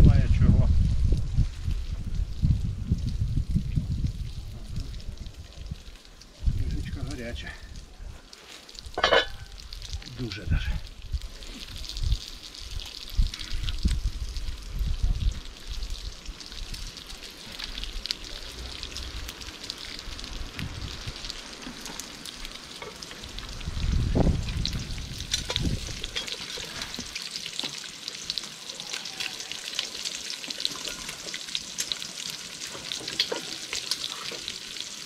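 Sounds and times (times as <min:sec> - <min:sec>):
fat frying and crackling: 0:00.0 - 0:35.0.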